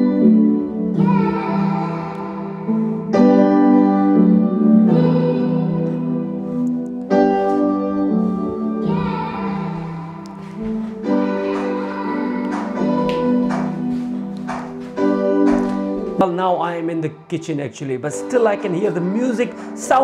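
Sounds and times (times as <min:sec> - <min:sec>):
keyboard melody from speaker: 0:00.0 - 0:20.0.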